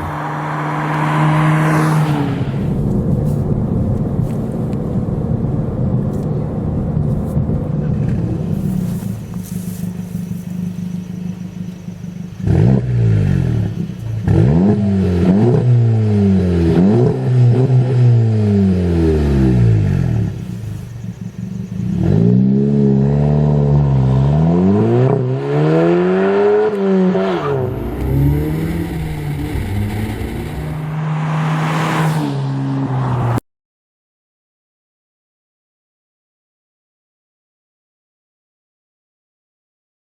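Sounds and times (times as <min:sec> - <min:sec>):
car exhaust idling and revving: 0:00.0 - 0:33.4.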